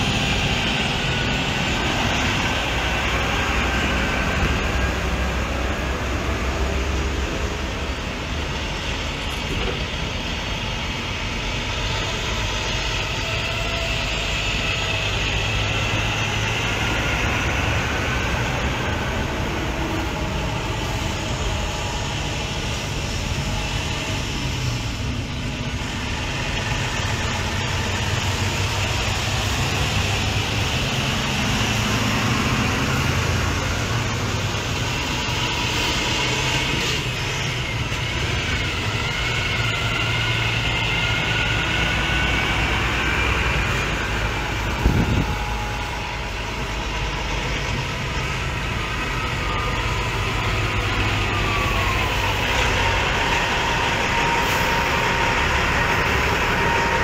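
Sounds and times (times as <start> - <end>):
truck diesel engines rumbling: 0.0 - 57.0.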